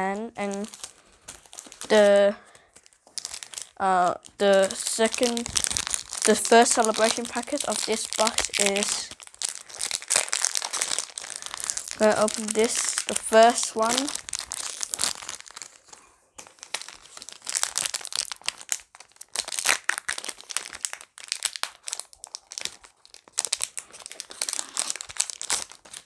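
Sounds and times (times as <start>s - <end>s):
foil wrapper crinkling and tearing: 0.4s - 26.0s.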